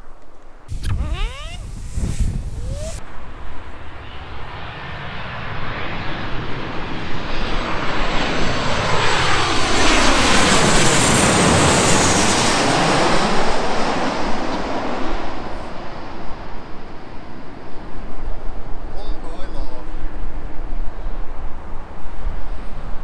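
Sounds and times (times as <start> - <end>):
jet airliner passing overhead: 1.0 - 23.0.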